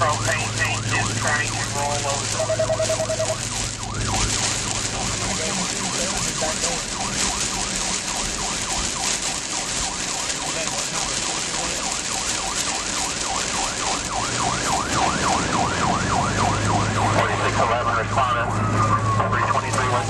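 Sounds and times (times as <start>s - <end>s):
emergency siren yelping: 0.0s - 20.0s
road and storm hiss: 0.0s - 20.0s.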